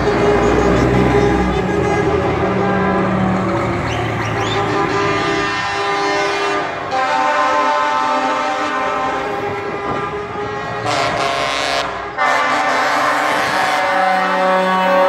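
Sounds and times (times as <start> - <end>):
truck air horns blasting: 0.0 - 15.0.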